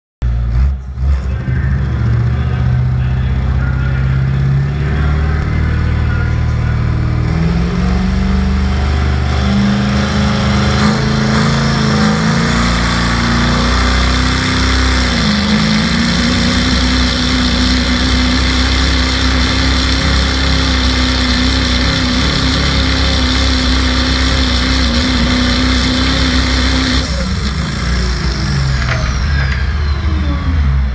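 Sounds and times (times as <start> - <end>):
diesel truck engine revving: 0.2 - 30.9.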